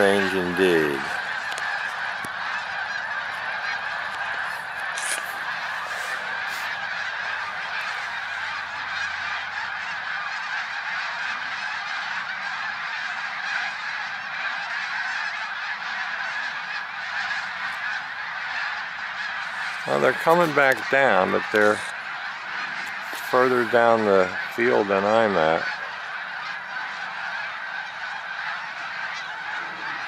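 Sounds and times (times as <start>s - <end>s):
flock of geese honking: 0.0s - 30.0s.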